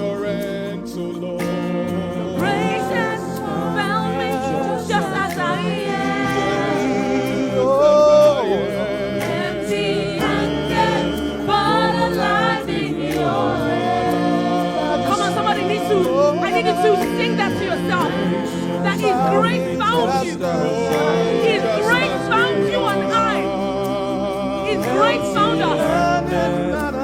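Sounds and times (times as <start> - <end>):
gospel singers: 0.0 - 27.0
sustained chords: 0.0 - 27.0.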